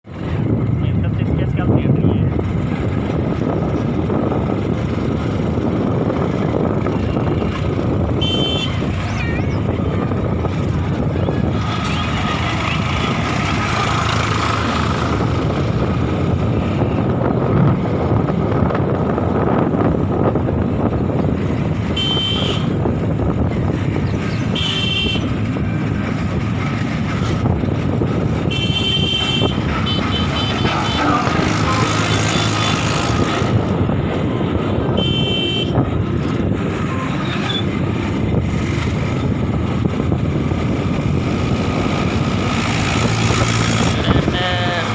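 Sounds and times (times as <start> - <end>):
tractor diesel engine running: 0.1 - 44.9.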